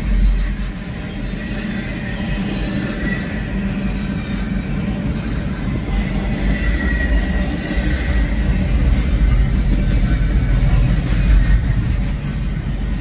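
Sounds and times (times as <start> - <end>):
freight train wheels rumbling: 0.0 - 13.0
high wheel squeal: 0.0 - 13.0.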